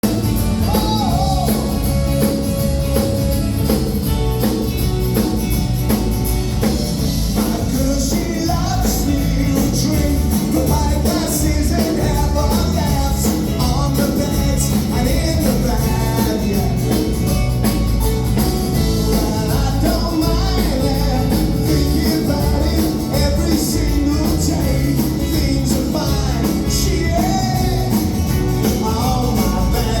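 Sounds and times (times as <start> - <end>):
rock music with singing: 0.0 - 30.0.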